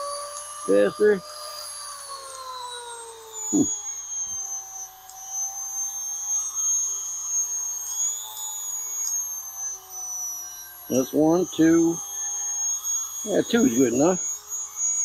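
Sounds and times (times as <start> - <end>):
small motor high-pitched whine: 0.0 - 15.0.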